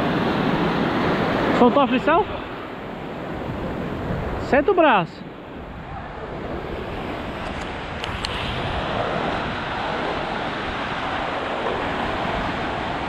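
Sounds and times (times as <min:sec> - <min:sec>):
surf washing onto sandy beach: 0:00.0 - 0:13.0.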